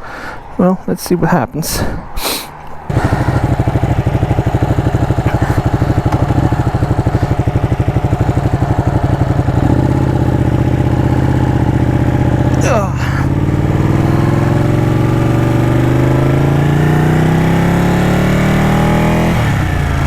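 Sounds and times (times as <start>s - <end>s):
motorcycle engine starting and idling: 2.8s - 20.0s.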